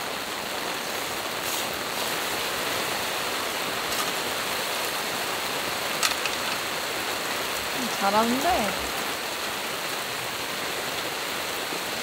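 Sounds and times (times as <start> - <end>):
rain on a tarp: 0.0 - 12.0.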